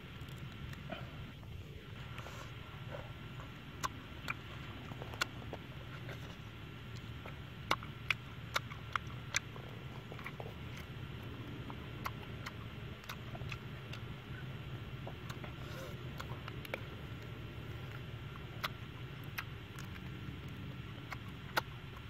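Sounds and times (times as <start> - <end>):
chewing and crunching: 0.0 - 22.0
low background noise: 0.0 - 22.0
sharp mouth clicks: 3.0 - 22.0.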